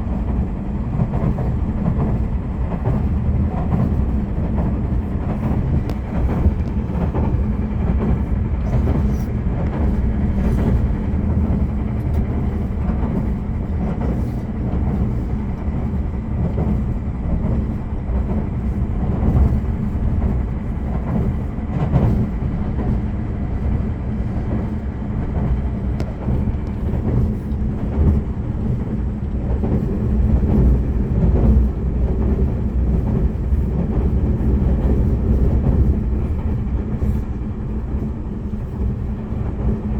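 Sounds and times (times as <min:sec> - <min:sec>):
rail joint clicks: 0:00.0 - 0:39.9
train wheels rumbling on rail: 0:00.0 - 0:39.9.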